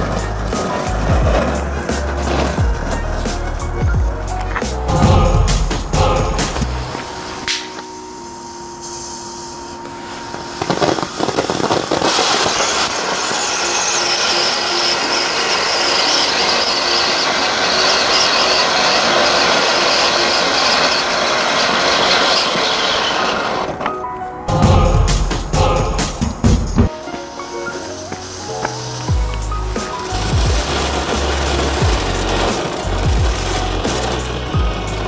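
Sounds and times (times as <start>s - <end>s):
firework fountain hissing: 0.0s - 23.9s, 26.9s - 35.0s.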